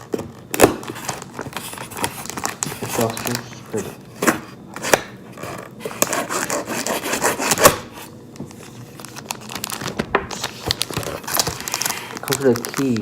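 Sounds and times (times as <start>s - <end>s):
cardboard packaging rubbing: 0.0s - 13.0s.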